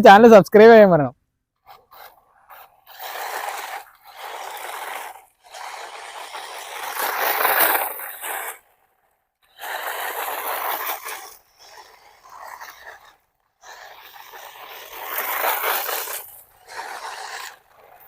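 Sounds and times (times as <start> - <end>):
rc truck driving over dirt: 1.5 - 18.0.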